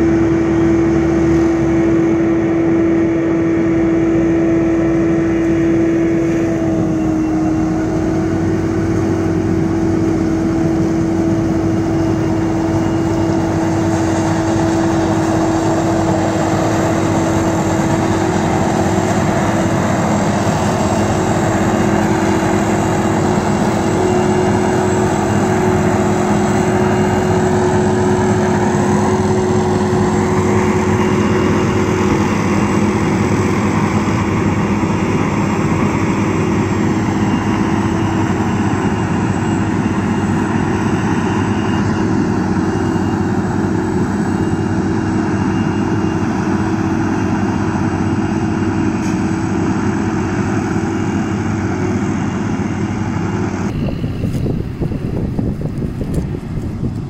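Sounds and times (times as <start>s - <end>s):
forage harvester droning: 0.0s - 57.0s.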